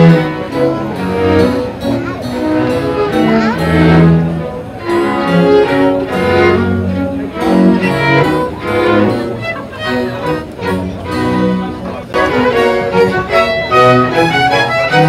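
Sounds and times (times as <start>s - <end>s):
violin and cello music: 0.0s - 15.0s.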